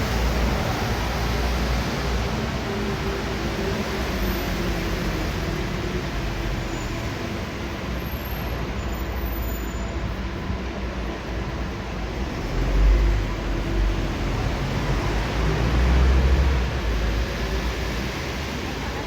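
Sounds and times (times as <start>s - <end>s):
rumble of road traffic: 0.0s - 19.0s.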